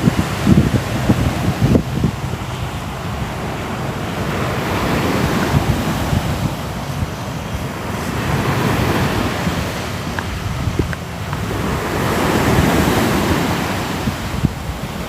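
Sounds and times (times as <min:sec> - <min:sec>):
sea waves breaking on shore: 0:00.0 - 0:15.0
wind rumbling on microphone: 0:00.0 - 0:15.0.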